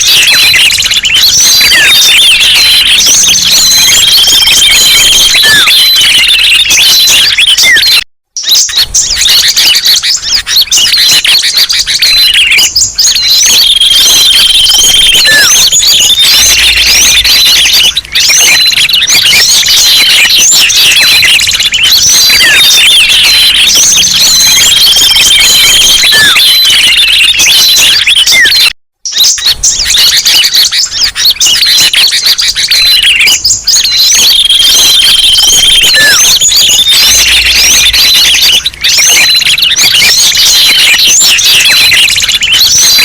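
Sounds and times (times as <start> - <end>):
songbirds chirping and twittering: 0.0 - 43.0.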